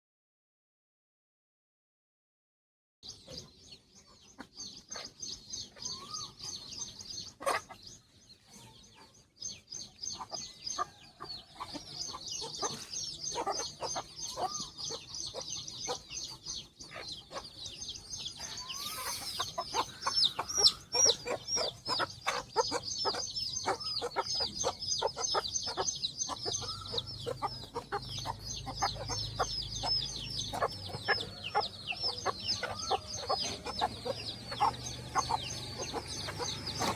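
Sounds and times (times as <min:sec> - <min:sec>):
chicks peeping: 0:03.0 - 0:36.9
hen clucking: 0:03.3 - 0:36.9.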